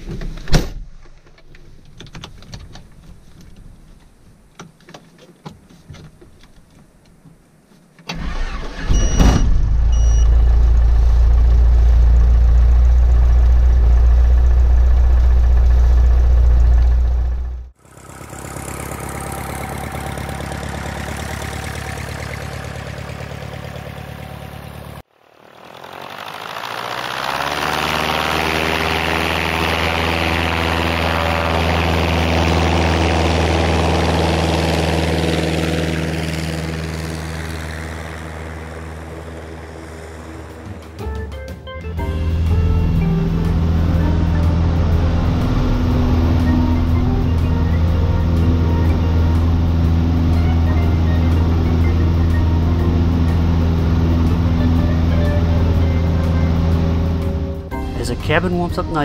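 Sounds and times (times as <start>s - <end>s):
aircraft engine running: 8.1s - 59.0s.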